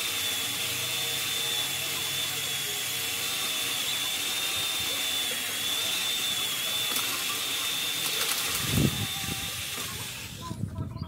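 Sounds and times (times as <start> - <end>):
electric chainsaw whine: 0.0 - 10.6.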